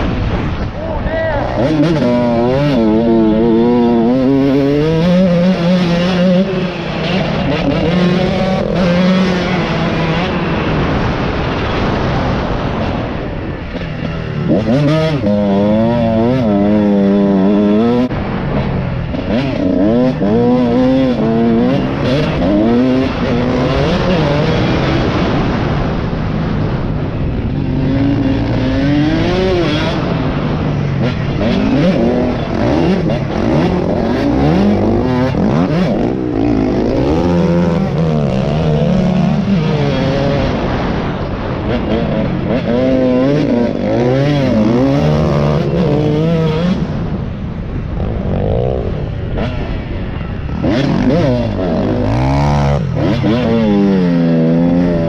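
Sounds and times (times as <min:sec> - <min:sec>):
dirt bike engine revving: 0:00.0 - 0:55.0
wind rushing noise: 0:00.0 - 0:55.0.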